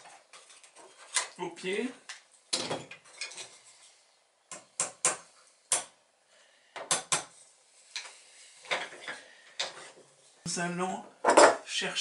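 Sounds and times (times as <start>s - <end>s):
metal tools on wooden workbench: 0.0s - 6.0s, 6.8s - 10.4s, 11.0s - 11.7s.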